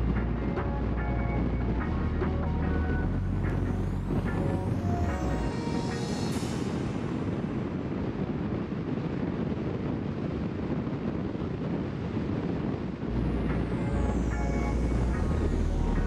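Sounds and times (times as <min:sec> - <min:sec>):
wind and road noise from car: 0:00.0 - 0:16.0.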